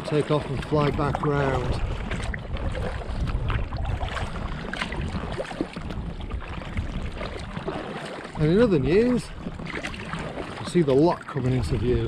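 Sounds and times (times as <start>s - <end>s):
paddle splashing water: 0.0s - 12.0s
wind buffeting microphone: 0.0s - 12.0s.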